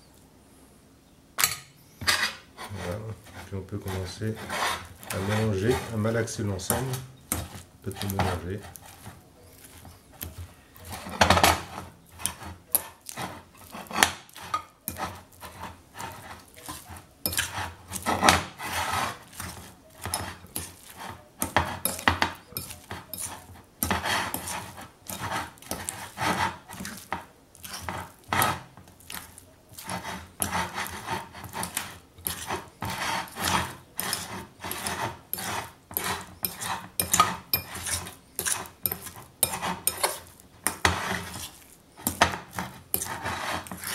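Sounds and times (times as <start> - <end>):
fork clinking and scraping bowl: 1.4 - 43.9.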